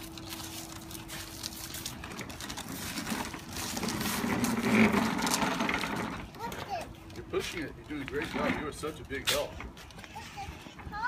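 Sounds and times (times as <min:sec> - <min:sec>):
wheeled object rattling along ground: 0:00.0 - 0:11.0.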